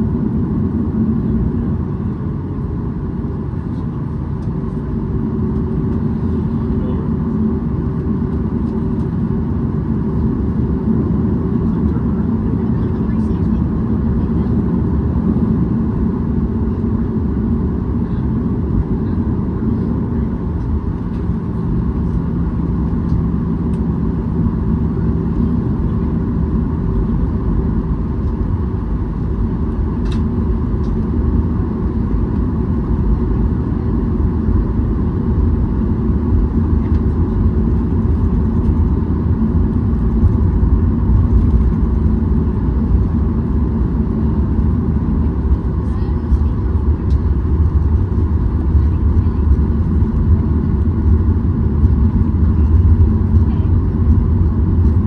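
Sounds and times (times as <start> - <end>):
jet engines humming: 0.0 - 55.0
low rumble: 0.0 - 55.0.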